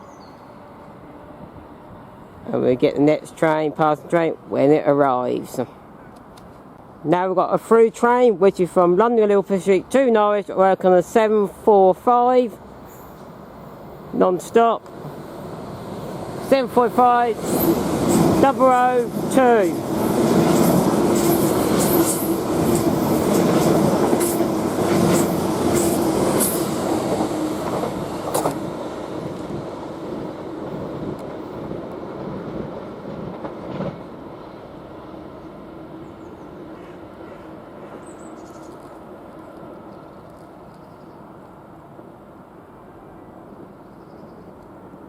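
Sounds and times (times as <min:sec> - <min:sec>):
train passing at speed: 0:00.0 - 0:06.0, 0:09.4 - 0:45.0.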